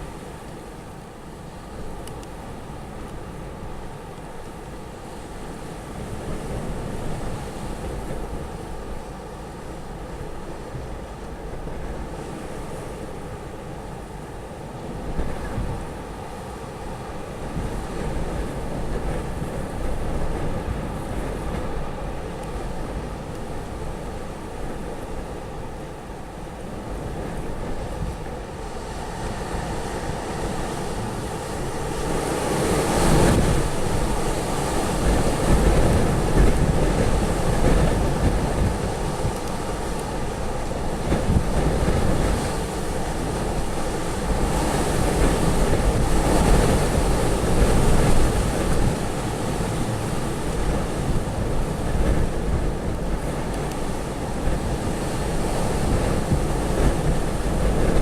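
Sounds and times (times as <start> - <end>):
storm-force wind gusting: 0.0 - 58.0
wind buffeting microphone: 0.0 - 58.0.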